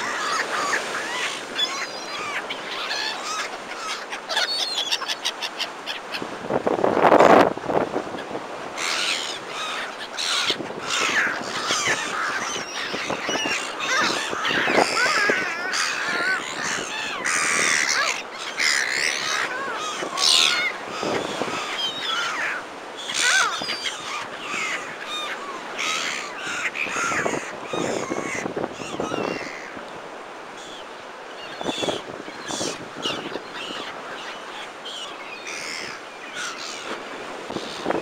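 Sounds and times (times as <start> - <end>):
gulls calling: 0.0 - 7.4, 8.0 - 38.0
wind: 0.0 - 38.0.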